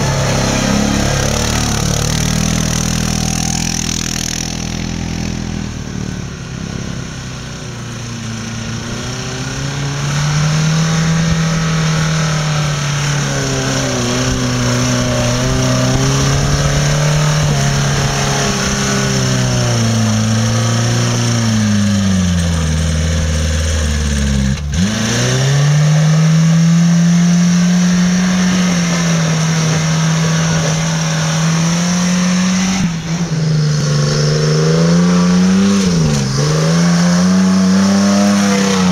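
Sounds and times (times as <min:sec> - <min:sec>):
engine revving hard: 0:00.0 - 0:06.0, 0:08.3 - 0:38.9.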